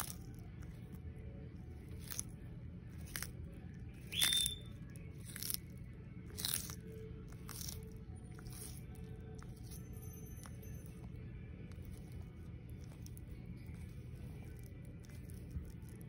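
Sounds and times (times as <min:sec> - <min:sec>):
tortoise crunching lettuce: 0:00.0 - 0:16.0.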